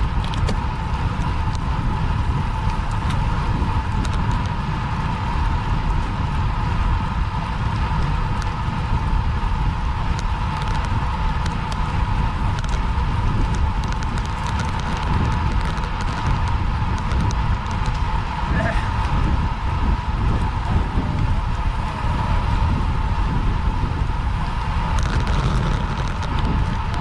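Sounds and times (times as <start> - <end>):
mid-pitched hum: 0.0 - 27.0
wind rushing on microphone: 0.0 - 27.0.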